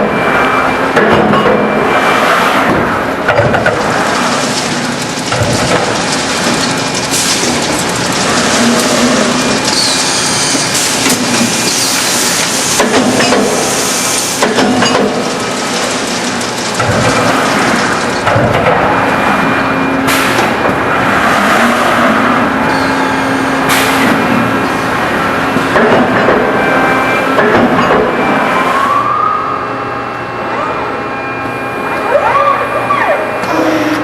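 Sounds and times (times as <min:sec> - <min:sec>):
machinery hum: 0:00.0 - 0:34.0.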